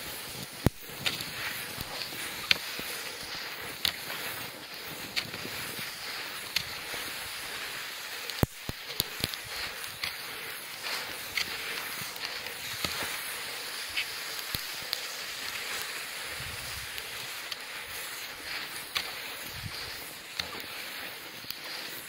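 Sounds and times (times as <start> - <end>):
footsteps on wet snowy road: 0.0 - 22.0
rain hiss: 0.0 - 22.0.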